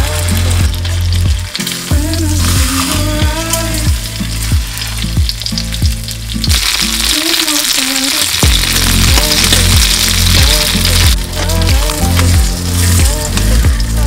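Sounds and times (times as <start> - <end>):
bass-led background music: 0.0 - 14.0
pork skin sizzling in a pan: 0.0 - 14.0.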